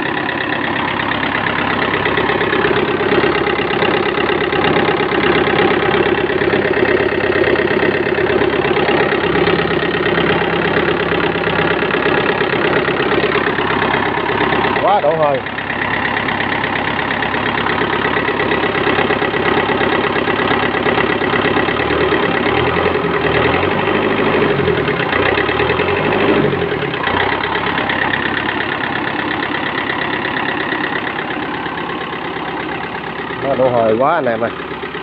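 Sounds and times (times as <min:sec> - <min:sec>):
tractor engine idling: 0:00.0 - 0:35.0.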